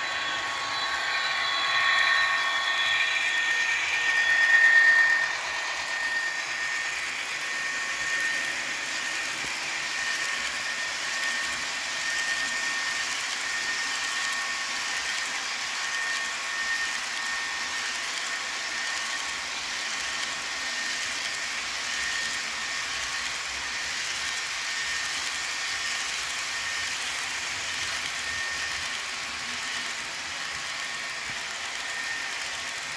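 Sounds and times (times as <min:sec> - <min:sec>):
thin high whine: 0:00.0 - 0:32.9.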